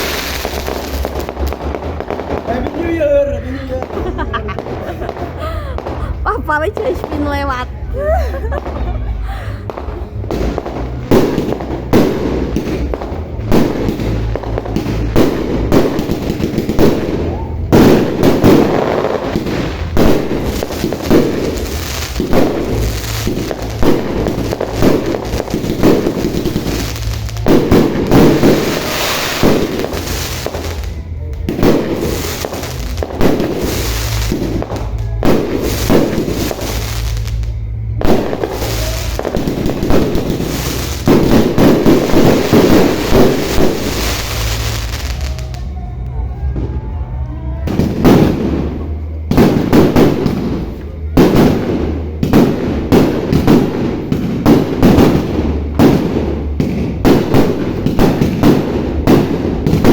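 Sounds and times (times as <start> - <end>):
fireworks banging: 0.0 - 45.8, 47.6 - 59.9.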